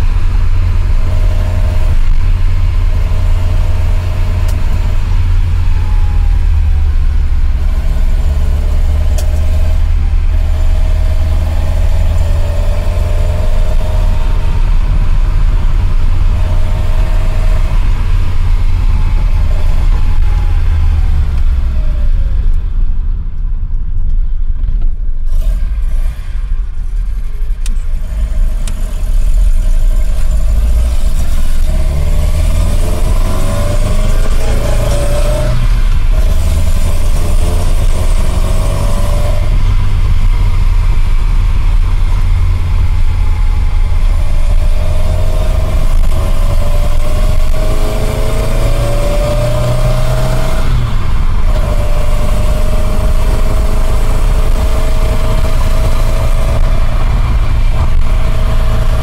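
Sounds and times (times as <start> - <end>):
car engine accelerating: 0.0 - 59.0
heavy low rumble: 0.0 - 59.0.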